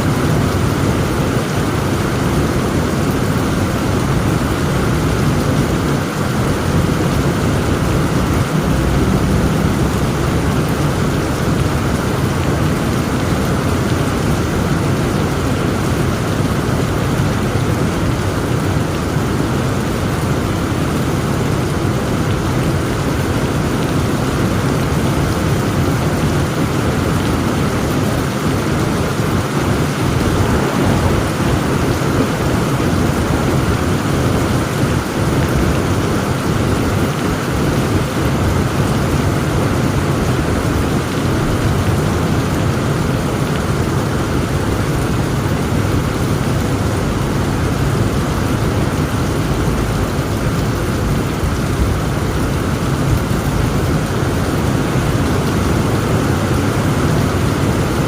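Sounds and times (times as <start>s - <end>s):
heavy rain: 0.0s - 58.0s
low thunder rumbling: 0.1s - 20.8s, 27.0s - 56.0s.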